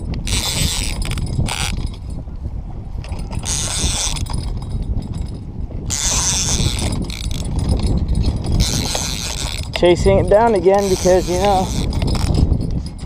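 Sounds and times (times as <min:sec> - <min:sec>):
fishing reel clicking and whirring: 0:00.0 - 0:02.2, 0:03.0 - 0:13.0.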